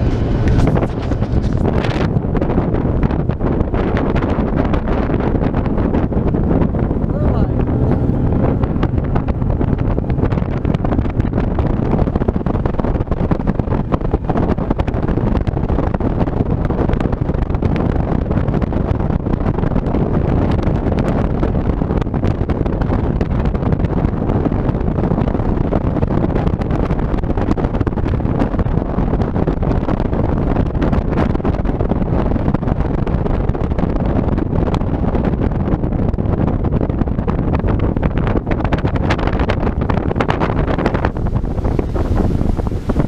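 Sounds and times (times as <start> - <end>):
outboard motor and hull noise: 0.0 - 43.0
wind buffeting microphone: 0.0 - 43.0.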